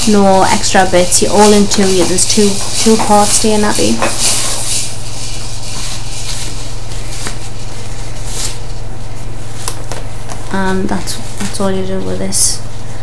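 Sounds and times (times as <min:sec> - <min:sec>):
cloth rustling: 0:00.0 - 0:11.8
low electrical hum: 0:00.0 - 0:13.0.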